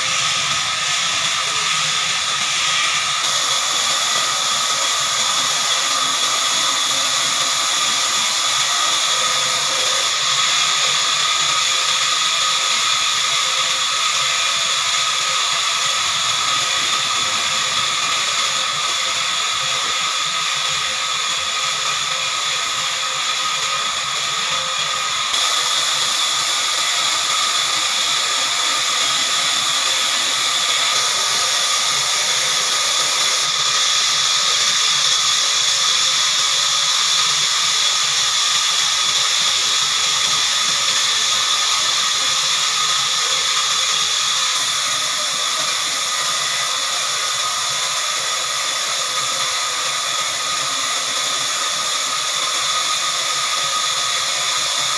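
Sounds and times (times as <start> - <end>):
band saw cutting log: 0.0 - 54.9.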